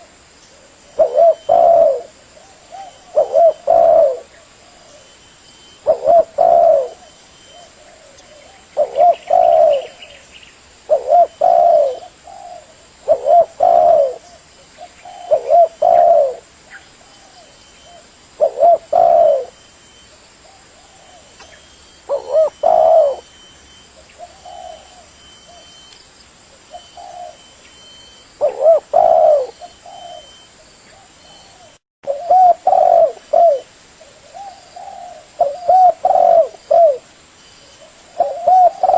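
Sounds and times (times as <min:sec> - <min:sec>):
dove cooing: 0:00.0 - 0:10.2, 0:10.8 - 0:25.9, 0:26.7 - 0:37.1, 0:37.7 - 0:38.9.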